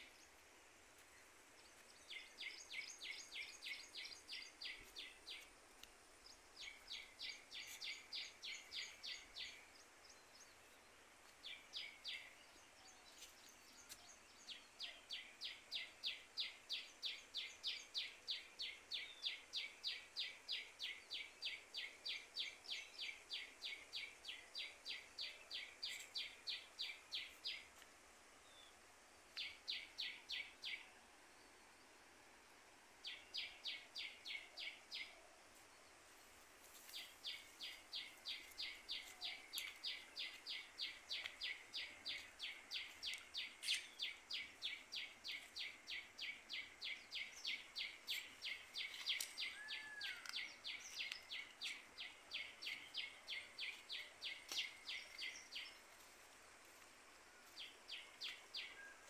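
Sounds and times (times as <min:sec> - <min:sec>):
faint outdoor background noise: 0:00.0 - 0:59.0.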